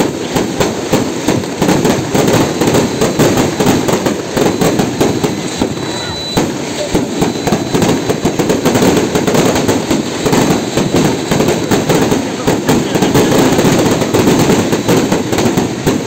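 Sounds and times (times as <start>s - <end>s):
firecrackers cracking and banging: 0.0s - 16.0s.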